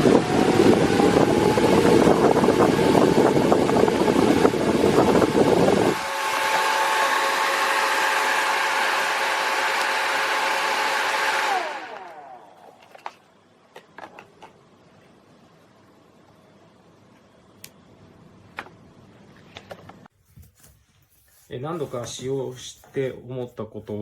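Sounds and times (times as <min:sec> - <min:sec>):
fan spinning down with whine: 0:00.0 - 0:19.4
electric fan whirring: 0:00.0 - 0:20.1.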